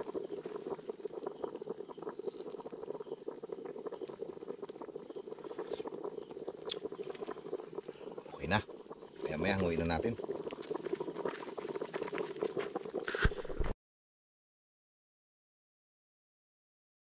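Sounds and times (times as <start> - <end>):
crickets chirping: 0.0 - 13.7
pot of soup boiling: 0.0 - 13.8
wood fire: 0.0 - 13.8.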